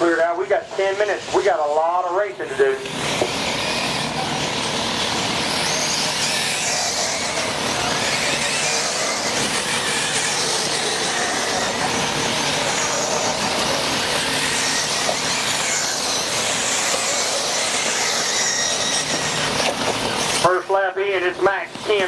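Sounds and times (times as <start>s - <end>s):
rc car motors whining: 0.8s - 22.0s.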